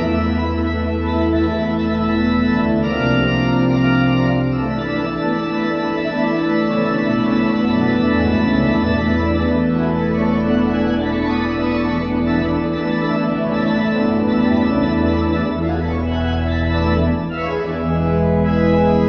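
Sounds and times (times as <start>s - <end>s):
deep organ pedal bass notes: 0.0s - 19.0s
pipe organ chords: 0.0s - 19.0s.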